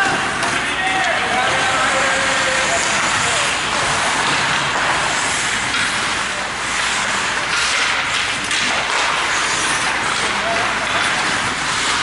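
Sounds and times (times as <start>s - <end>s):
ice rink ambience hiss: 0.0s - 12.0s.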